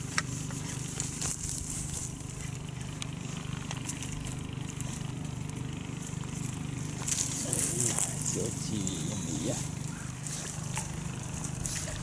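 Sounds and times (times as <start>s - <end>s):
low pulsing engine-like hum: 0.0s - 12.0s.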